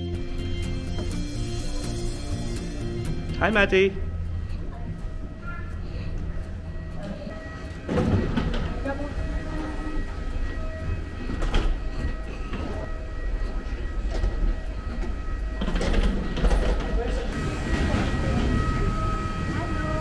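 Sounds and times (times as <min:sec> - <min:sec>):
machinery low rumble and whine: 0:00.0 - 0:20.0
distant voices: 0:01.1 - 0:20.0.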